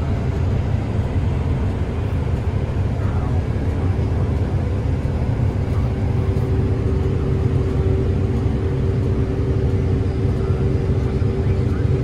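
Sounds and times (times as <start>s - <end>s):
combine harvester engine drone: 0.0s - 12.0s
steady hum: 0.0s - 12.0s.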